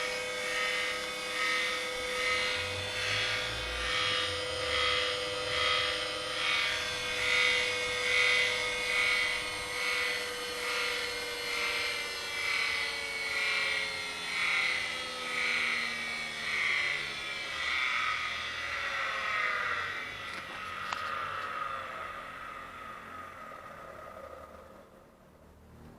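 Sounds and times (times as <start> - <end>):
electric motor whining: 0.0 - 25.9.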